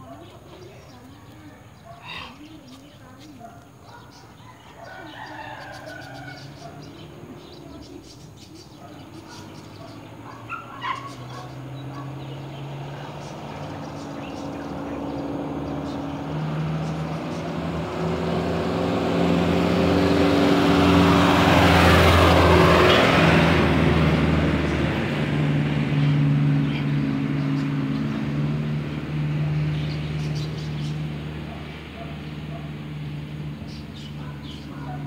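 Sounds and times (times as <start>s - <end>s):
motor vehicle passing: 0.0s - 35.0s.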